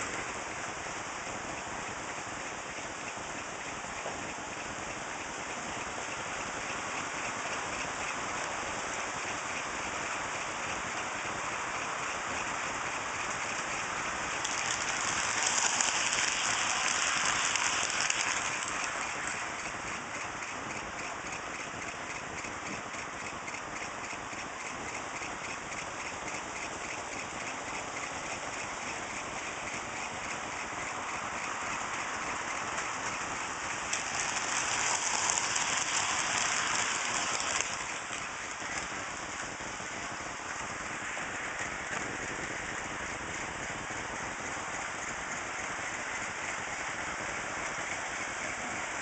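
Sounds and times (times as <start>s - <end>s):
model trains hissing on rails: 0.0s - 49.0s.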